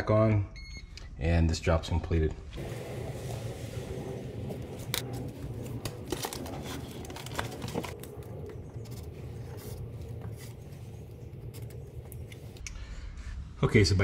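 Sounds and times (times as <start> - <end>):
steady low hum: 2.4 - 14.0.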